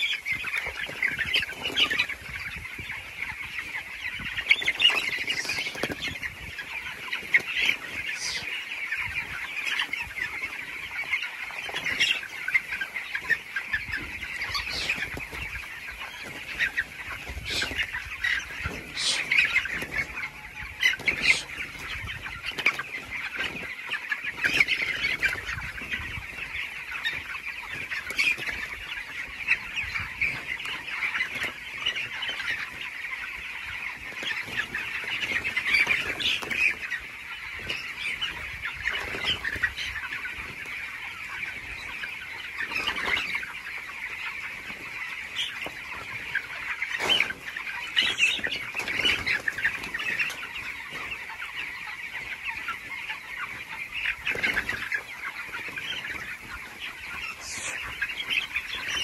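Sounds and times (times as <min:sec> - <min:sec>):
flock of chickens peeping and clucking: 0:00.0 - 0:59.0.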